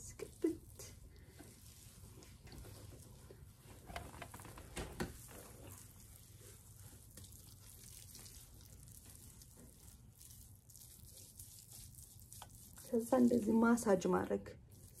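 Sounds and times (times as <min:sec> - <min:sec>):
wet squishing of paste in hair: 0:00.0 - 0:15.0.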